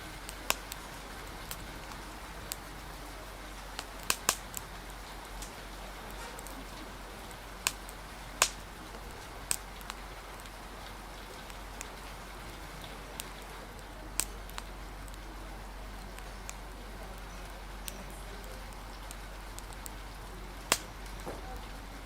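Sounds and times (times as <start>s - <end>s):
rain hiss: 0.0s - 22.0s
wood fire pops: 0.1s - 22.0s.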